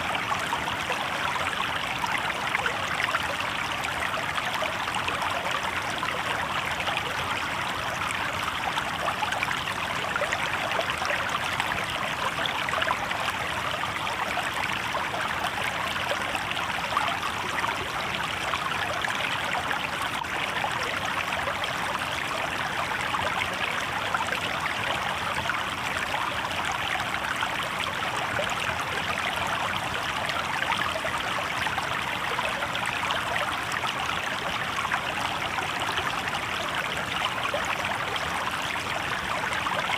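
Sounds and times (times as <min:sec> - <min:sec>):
river babbling over rocks: 0:00.0 - 0:39.9.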